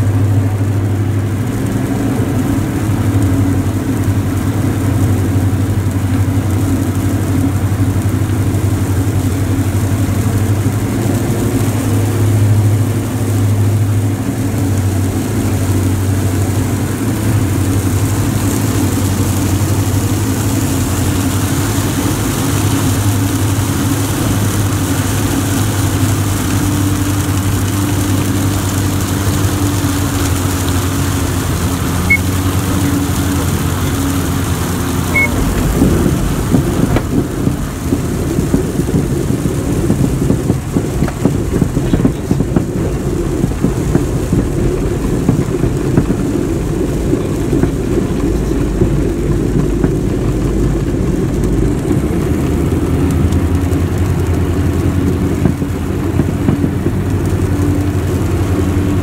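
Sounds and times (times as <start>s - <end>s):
aircraft engines droning: 0.0s - 59.0s
rough low rumble: 0.0s - 59.0s.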